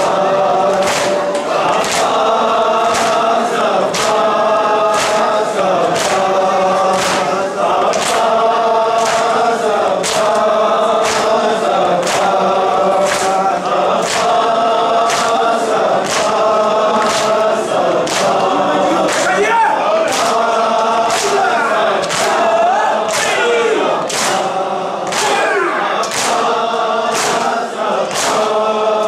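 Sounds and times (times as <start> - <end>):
hands slapping chests: 0.0 - 19.4, 20.0 - 28.6
men chanting together: 0.0 - 29.0.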